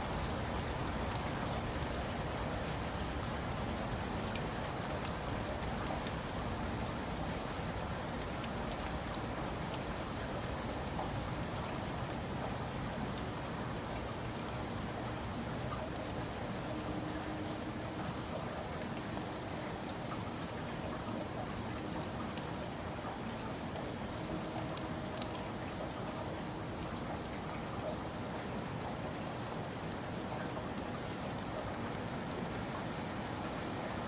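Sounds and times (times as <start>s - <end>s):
rain pattering on a surface: 0.0s - 34.0s.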